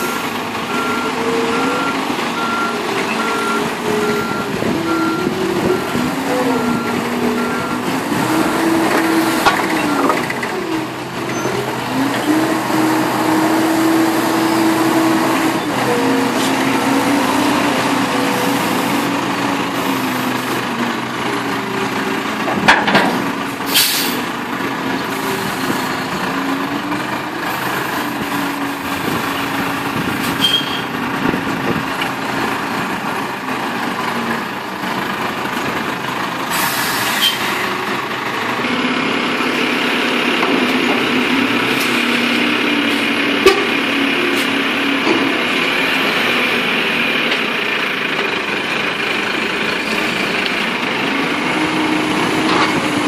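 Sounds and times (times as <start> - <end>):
lorry diesel engine running: 0.0 - 53.0.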